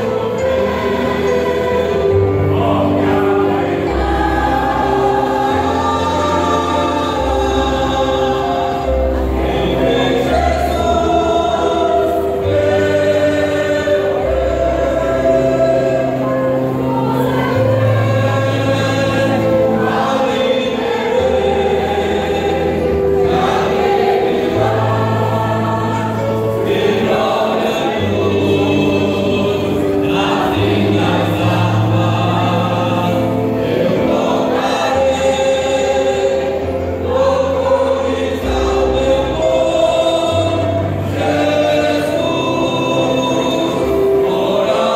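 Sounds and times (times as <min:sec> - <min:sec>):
mixed choir singing: 0:00.0 - 0:44.9.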